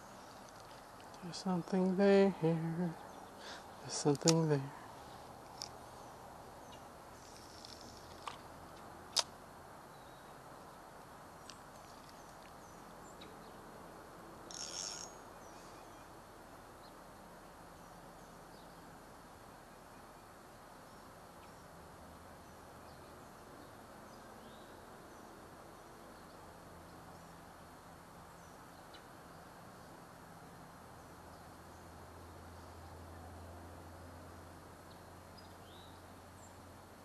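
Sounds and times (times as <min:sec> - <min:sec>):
steady low hiss: 0:00.0 - 0:37.0.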